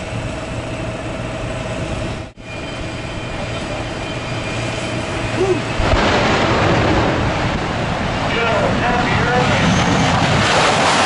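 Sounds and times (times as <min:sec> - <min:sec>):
jet engines roaring with whine: 0:00.0 - 0:11.0.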